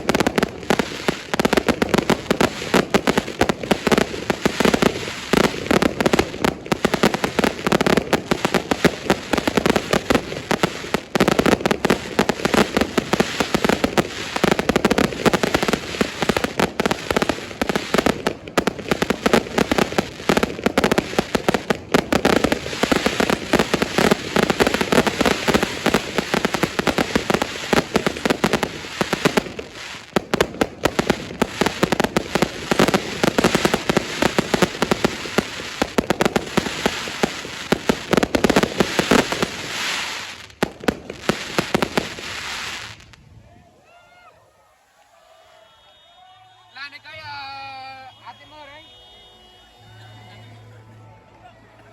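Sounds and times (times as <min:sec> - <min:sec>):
fireworks bangs and crackles: 0:00.0 - 0:43.4, 0:46.7 - 0:49.2.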